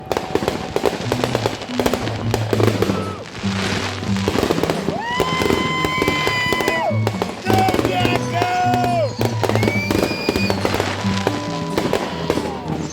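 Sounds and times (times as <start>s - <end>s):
firework whistle: 0.0s - 12.9s
fireworks crackling and popping: 0.0s - 12.9s
music with stepping bass line: 0.1s - 12.9s.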